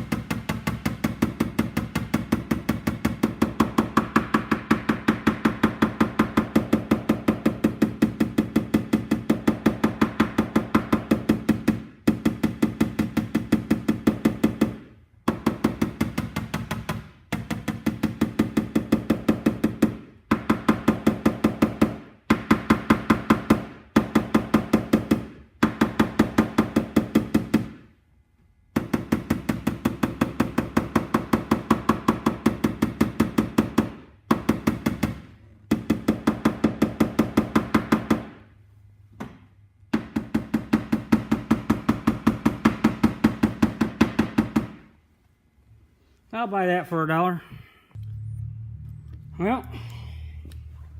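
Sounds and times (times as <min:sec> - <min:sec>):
hammer tapping on sheet metal: 0:00.0 - 0:27.9, 0:28.7 - 0:38.5, 0:39.2 - 0:44.9.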